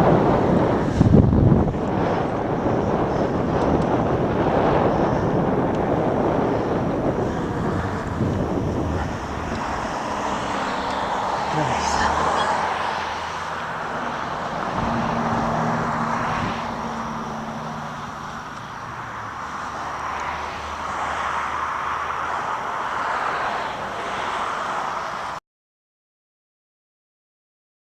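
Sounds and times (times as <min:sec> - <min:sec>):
wind rushing over microphone: 0:00.0 - 0:25.4.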